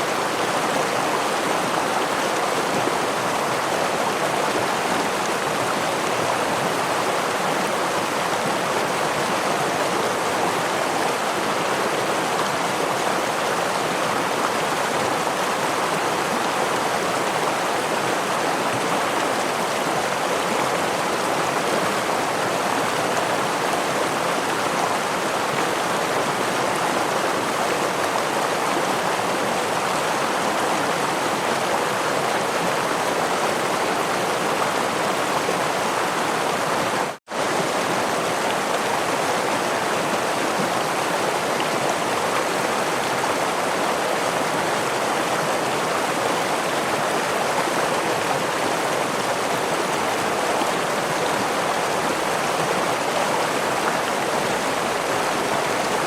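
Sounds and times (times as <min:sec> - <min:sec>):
stream rushing over small waterfall: 0:00.0 - 0:56.0.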